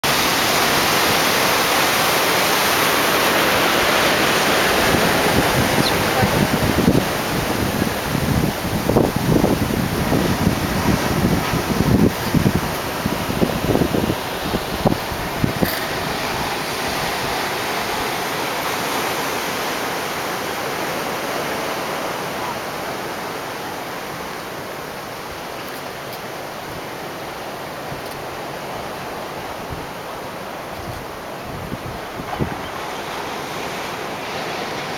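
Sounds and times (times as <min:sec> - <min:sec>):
ocean waves breaking: 0:00.0 - 0:34.9.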